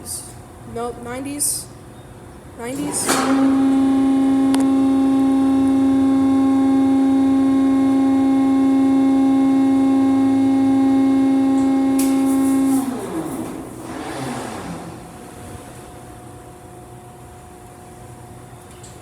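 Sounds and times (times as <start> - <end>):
car wash motor humming: 0.0 - 19.0.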